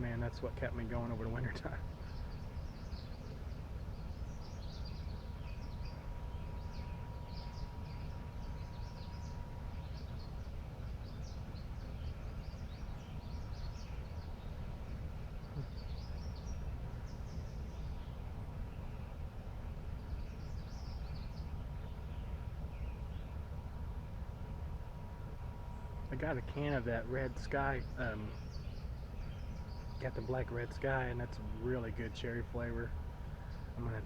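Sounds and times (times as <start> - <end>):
faint steady tone: 0.0 - 34.0
low outdoor rumble: 0.0 - 34.0
songbirds chirping: 0.0 - 34.0.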